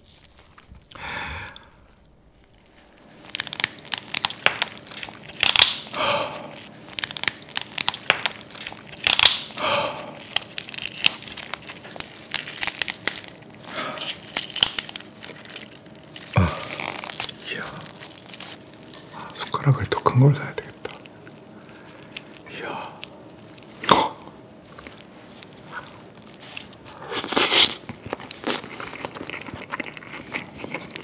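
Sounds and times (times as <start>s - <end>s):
crab shell crackling and squishing: 0.0s - 31.0s.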